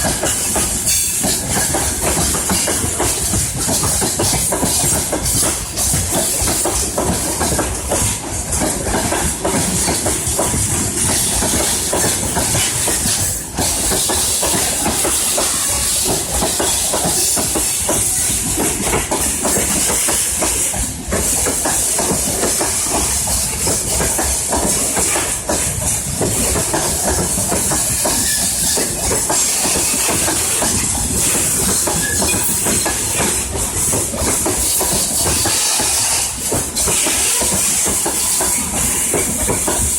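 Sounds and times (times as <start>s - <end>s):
freight train wheels rushing: 0.0s - 39.9s
wagons clattering over rail joints: 0.0s - 39.9s.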